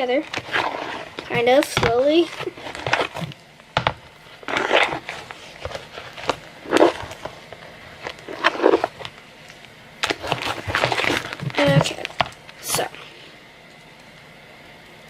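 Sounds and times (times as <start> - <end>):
slime squelching: 0.0 - 14.2.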